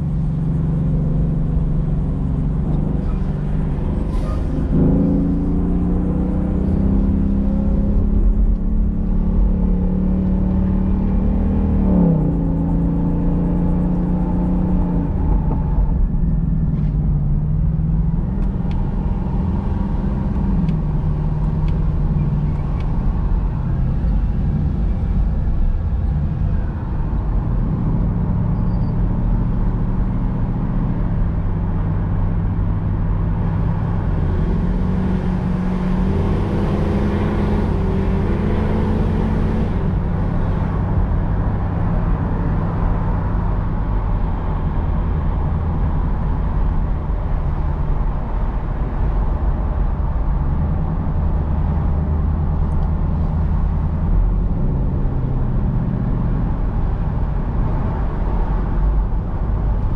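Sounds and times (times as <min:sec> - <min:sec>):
car engine shifting gears: 0:00.0 - 0:59.9.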